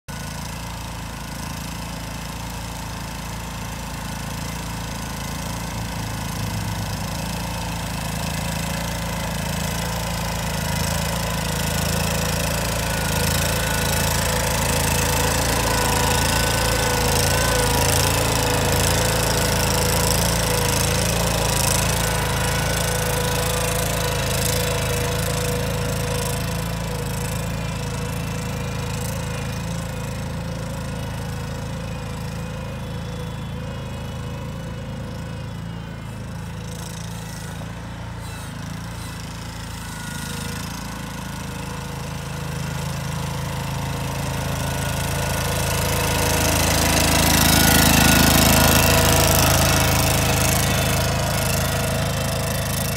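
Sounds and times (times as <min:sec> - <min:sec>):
tractor mower cutting grass: 0:00.0 - 0:52.9.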